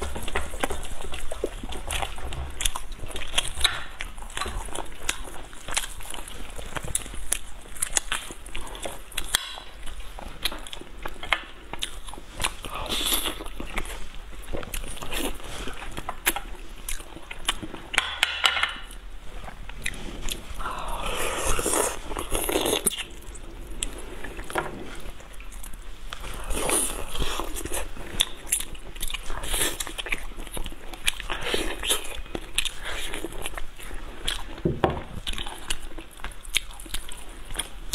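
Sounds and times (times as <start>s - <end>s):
biting and chewing: 0.0s - 18.1s, 19.3s - 37.9s.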